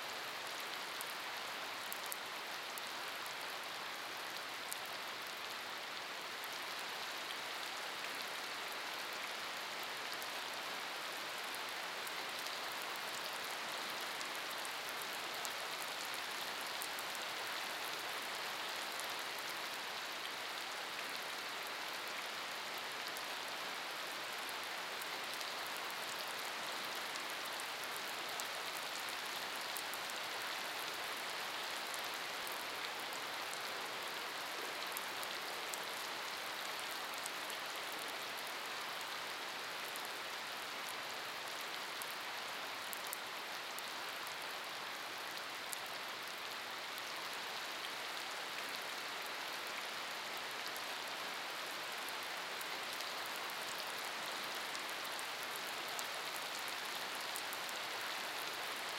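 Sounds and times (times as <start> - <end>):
rain on wet pavement: 0.1 - 58.9.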